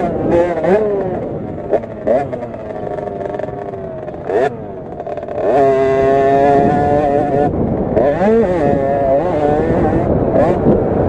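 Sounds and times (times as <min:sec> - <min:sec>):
two-stroke engine revving: 0:00.0 - 0:11.0.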